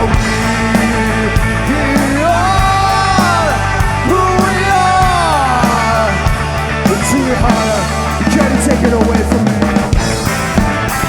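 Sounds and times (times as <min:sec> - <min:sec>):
bass guitar: 0:00.0 - 0:11.0
drums: 0:00.0 - 0:11.0.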